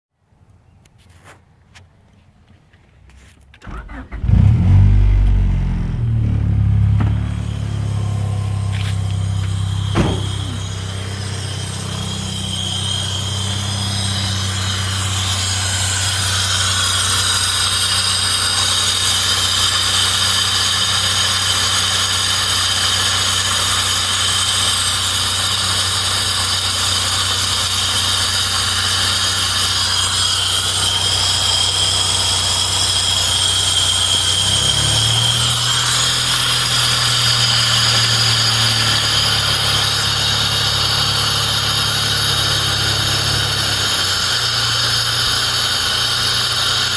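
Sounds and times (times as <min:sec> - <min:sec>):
vehicle engine idling: 0:03.6 - 0:46.9
high-pitched whine: 0:03.8 - 0:46.9.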